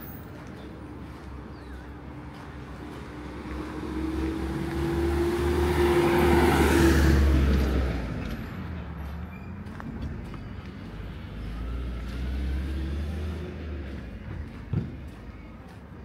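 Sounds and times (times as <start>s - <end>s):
motor vehicle passing by: 0.0s - 15.8s.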